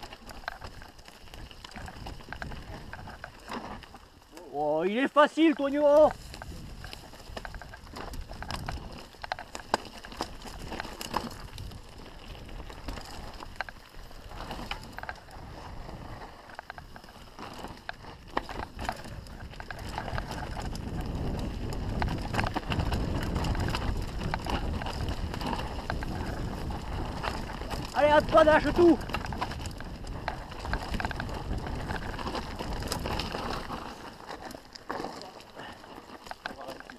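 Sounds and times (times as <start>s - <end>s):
wind rumble on microphone: 0.0s - 4.4s, 5.8s - 34.8s
bike chain and frame rattling: 0.0s - 36.9s
tyres crunching over dirt and stones: 0.0s - 36.9s.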